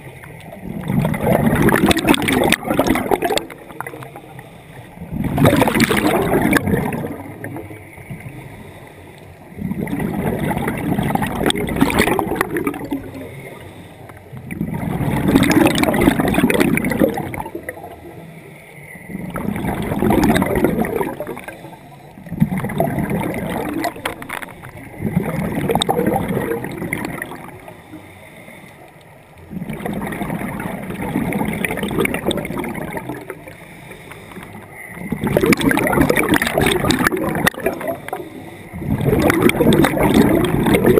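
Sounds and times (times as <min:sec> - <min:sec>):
scuba regulator bubbly exhalations: 0:00.0 - 0:08.4, 0:09.5 - 0:13.7, 0:14.4 - 0:18.2, 0:19.1 - 0:28.0, 0:29.4 - 0:40.9.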